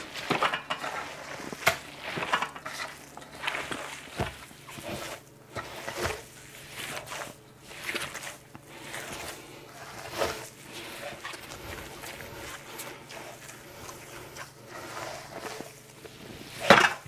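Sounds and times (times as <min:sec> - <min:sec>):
hands squishing meat in a bowl: 0:00.0 - 0:17.0.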